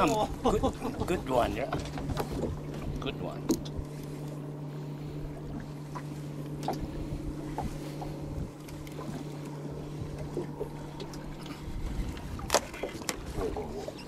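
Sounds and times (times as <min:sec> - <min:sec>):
boat motor humming: 0:00.0 - 0:14.0
water sounds: 0:00.0 - 0:14.0.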